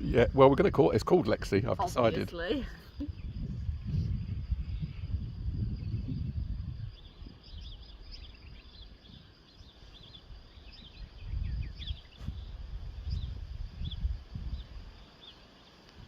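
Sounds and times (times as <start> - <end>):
low rumbling gusts: 0.0 - 15.1
small birds chirping: 1.8 - 16.0.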